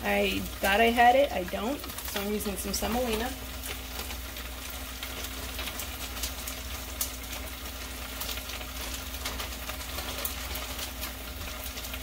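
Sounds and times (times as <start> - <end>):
chicken sizzling in a pan: 0.0 - 12.0
low steady hum: 0.0 - 12.0.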